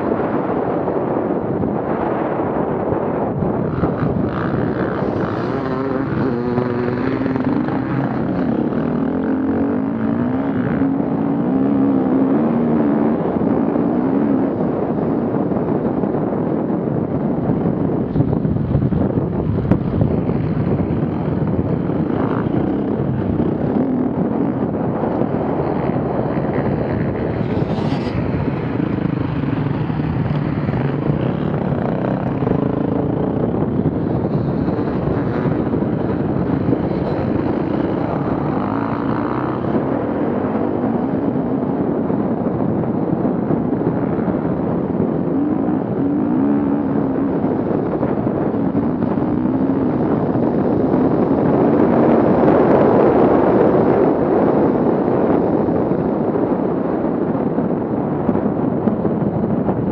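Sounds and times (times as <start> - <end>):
off-road vehicle engines: 0.0 - 56.5.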